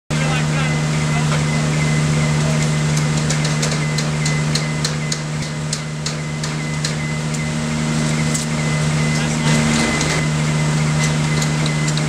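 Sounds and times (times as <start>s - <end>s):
low mechanical hum: 0.1s - 12.0s.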